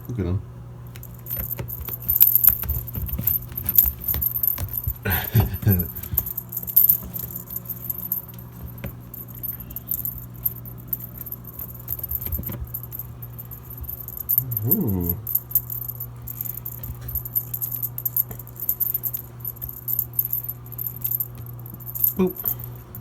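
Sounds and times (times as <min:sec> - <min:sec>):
washing machine humming: 0:00.0 - 0:23.0
metallic jangling and rattling: 0:00.9 - 0:23.0.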